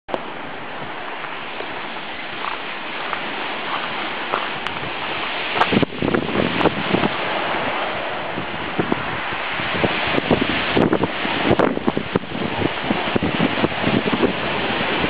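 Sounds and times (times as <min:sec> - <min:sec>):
surf on shingle beach: 0:00.1 - 0:15.0
wind on microphone: 0:00.1 - 0:15.0.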